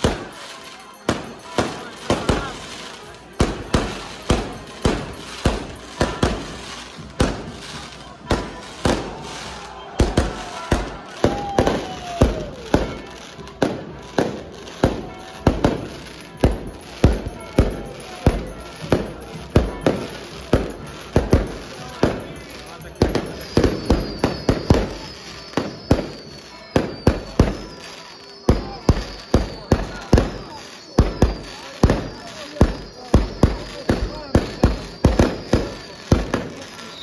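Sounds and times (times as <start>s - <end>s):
fireworks banging: 0.0s - 37.0s.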